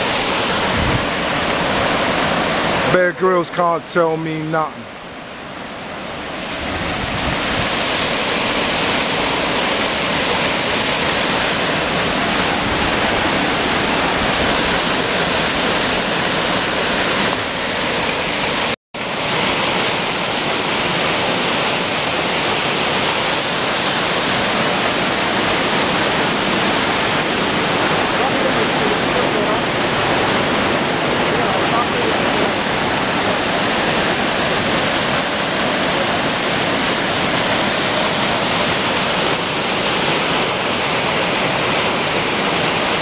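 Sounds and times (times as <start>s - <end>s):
waterfall rushing water: 0.0s - 43.0s.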